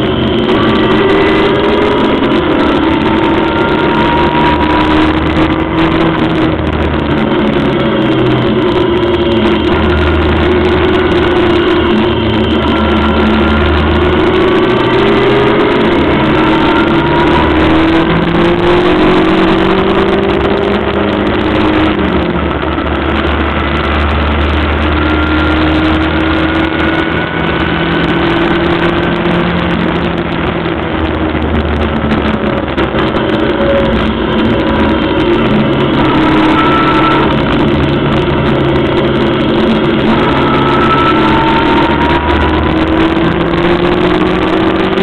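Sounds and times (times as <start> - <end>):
car engine running at speed: 0.0 - 45.0
wind and road noise: 0.0 - 45.0.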